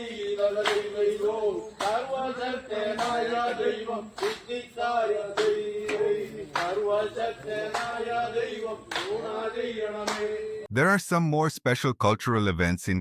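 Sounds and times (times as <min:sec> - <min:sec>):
men singing: 0:00.0 - 0:10.7.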